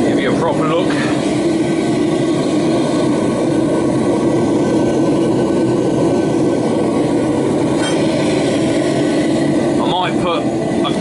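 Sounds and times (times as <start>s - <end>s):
gas burner rushing: 0.0s - 11.0s.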